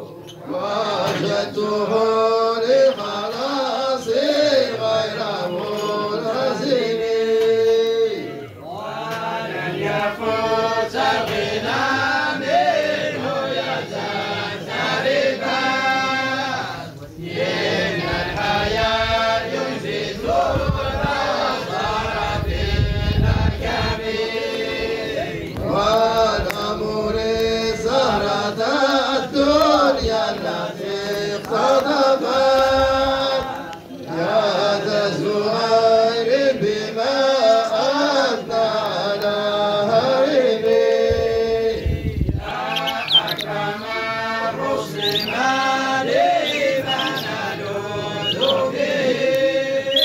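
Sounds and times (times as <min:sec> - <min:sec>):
group of voices chanting: 0:00.1 - 0:50.0.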